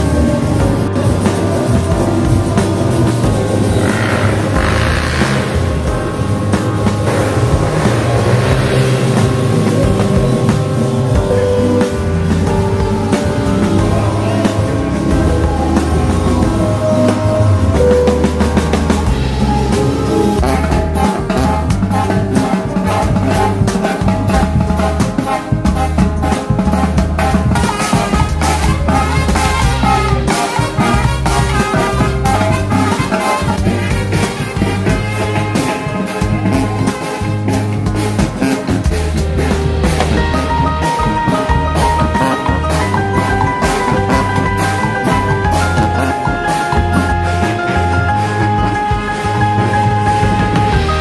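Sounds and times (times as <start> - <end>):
brass band playing lively tune: 0.0 - 51.0
drum kit beat: 0.0 - 51.0
sousaphone bass line: 0.0 - 51.0.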